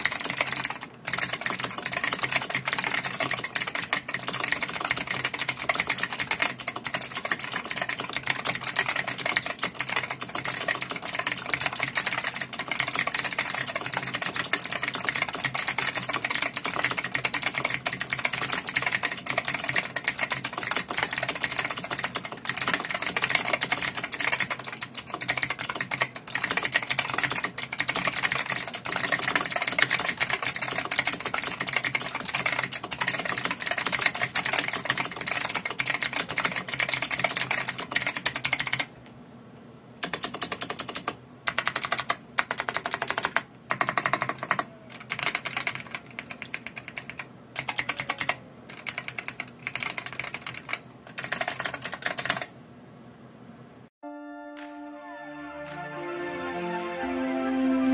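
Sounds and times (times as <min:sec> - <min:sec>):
typing on clicky keyboard: 0:00.0 - 0:38.9, 0:40.0 - 0:52.5.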